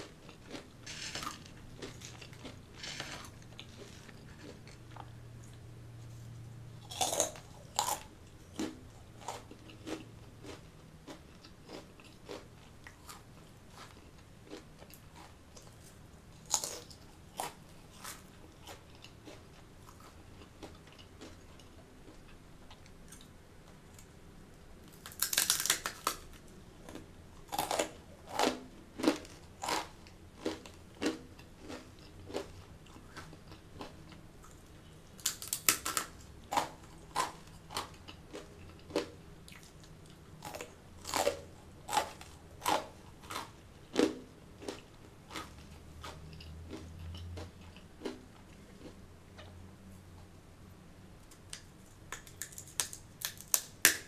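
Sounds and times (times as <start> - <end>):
crunchy chewing: 0.0 - 6.2, 6.8 - 24.1, 24.9 - 49.5.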